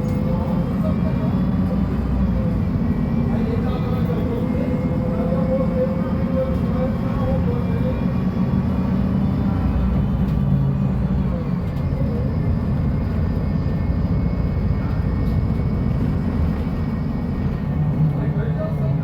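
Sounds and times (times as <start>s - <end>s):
bus diesel engine droning: 0.0s - 19.0s.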